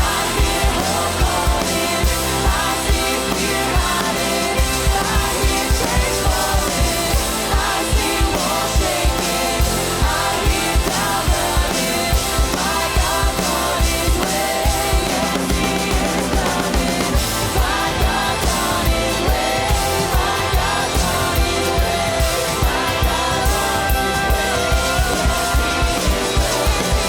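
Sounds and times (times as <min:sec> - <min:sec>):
worship band music with singing: 0:00.0 - 0:27.0.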